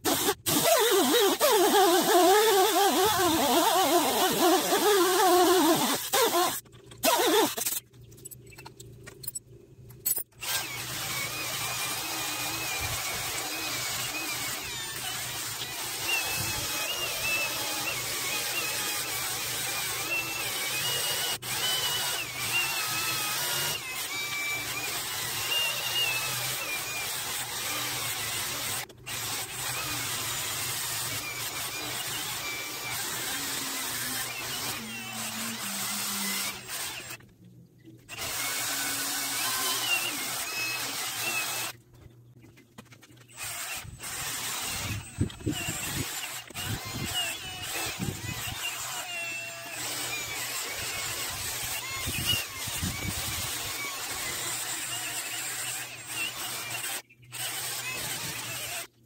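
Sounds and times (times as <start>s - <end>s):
cordless drill with wire wheel: 0.0s - 7.8s, 10.3s - 37.2s, 38.1s - 41.8s, 43.2s - 59.0s.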